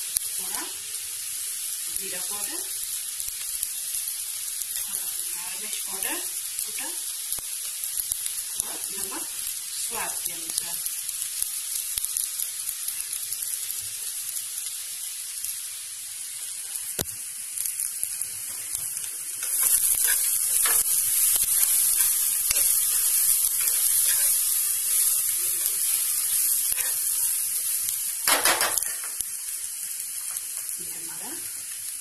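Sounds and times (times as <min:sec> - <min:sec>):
food sizzling in frying pan: 0:00.0 - 0:32.0.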